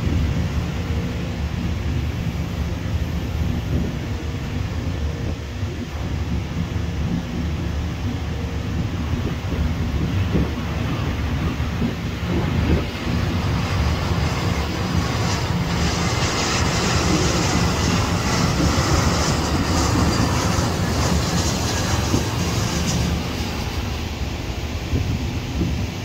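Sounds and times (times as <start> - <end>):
jet airliner engine hiss: 0.0 - 26.0
wind rumble on microphone: 0.0 - 26.0.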